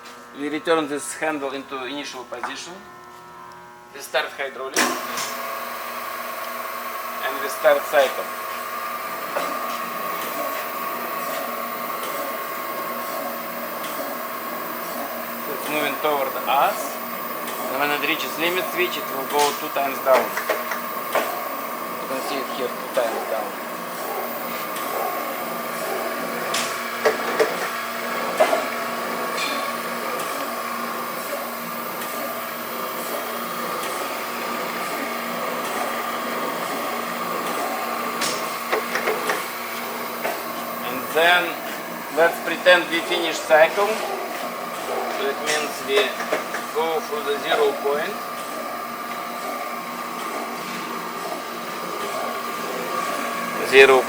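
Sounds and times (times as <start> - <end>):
surface grinder running with whine: 4.9 - 54.0.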